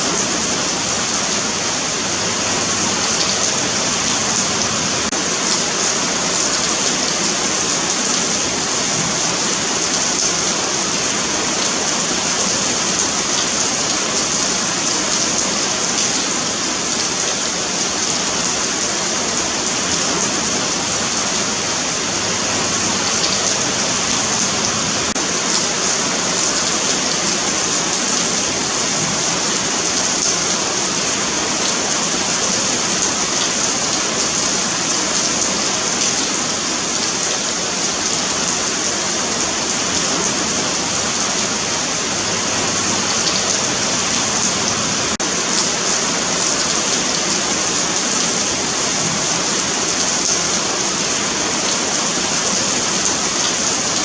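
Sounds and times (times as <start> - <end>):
rain pattering on concrete: 0.0 - 54.0.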